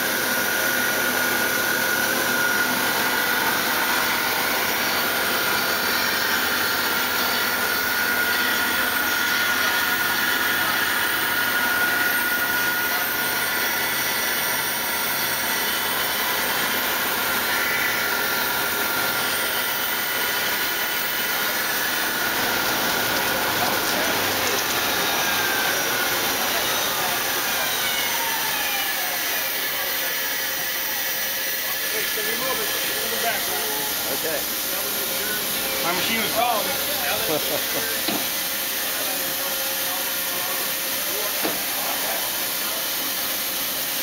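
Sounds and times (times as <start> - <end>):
boring mill whining: 0.0 - 44.0.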